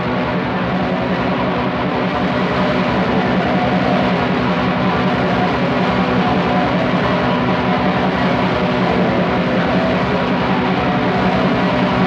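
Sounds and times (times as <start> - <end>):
distorted electric guitars: 0.0 - 12.0.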